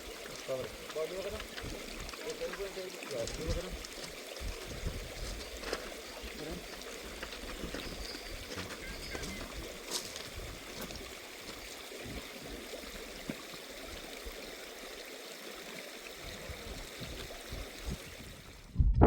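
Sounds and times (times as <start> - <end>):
small stream flowing: 0.0 - 18.8.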